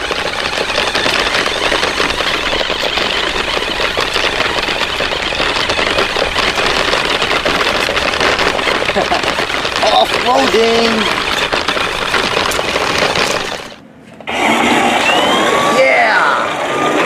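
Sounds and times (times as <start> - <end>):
toy car motor rattling buzz: 0.0 - 13.8.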